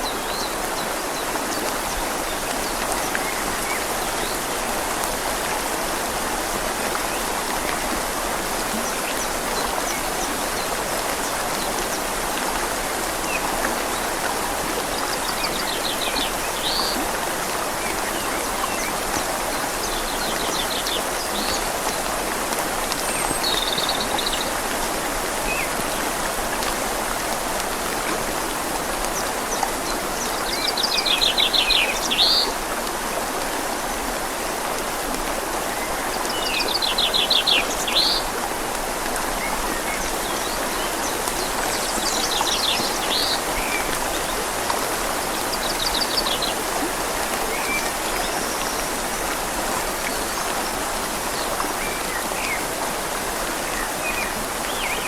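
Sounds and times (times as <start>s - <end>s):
river rushing: 0.0s - 55.0s
rain on leaves: 0.1s - 55.0s.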